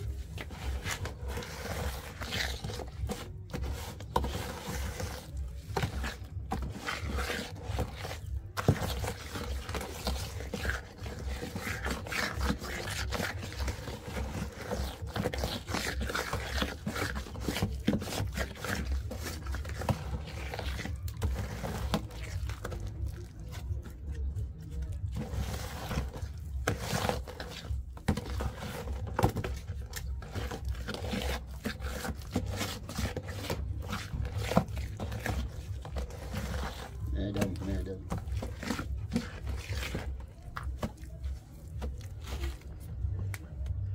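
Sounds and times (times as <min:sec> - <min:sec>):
stick stirring thick paste: 0:00.0 - 0:43.9.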